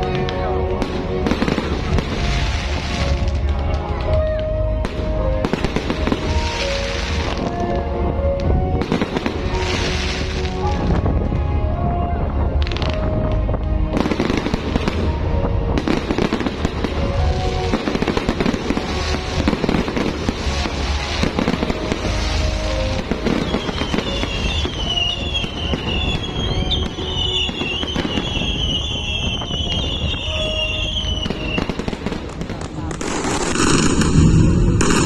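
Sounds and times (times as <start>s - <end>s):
fireworks crackling and popping: 0.0s - 35.0s
low fireworks booms: 0.0s - 35.0s
whistling fireworks: 0.0s - 35.0s.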